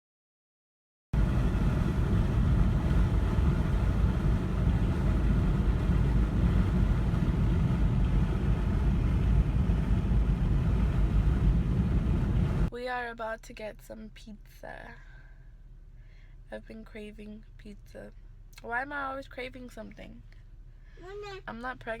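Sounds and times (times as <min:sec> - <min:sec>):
low rumble of moving vehicle: 0:01.2 - 0:22.0.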